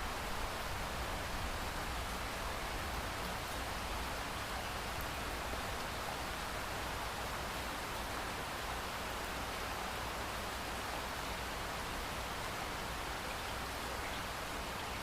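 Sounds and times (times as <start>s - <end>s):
steady pouring rain: 0.0s - 15.0s.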